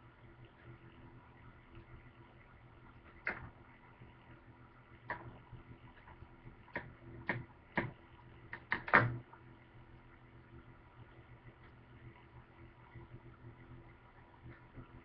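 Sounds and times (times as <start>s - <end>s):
appliance hum: 0.0s - 15.0s.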